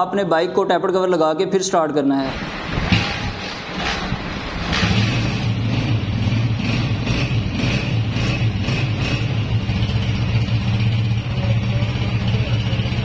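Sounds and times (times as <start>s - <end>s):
motorcycle engine starting and idling: 2.4s - 13.0s.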